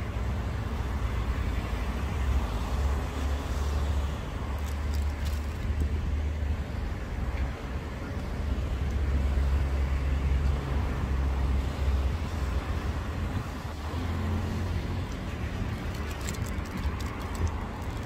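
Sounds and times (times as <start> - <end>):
road noise: 0.0 - 18.0
vehicle engine hum passing: 0.0 - 18.0.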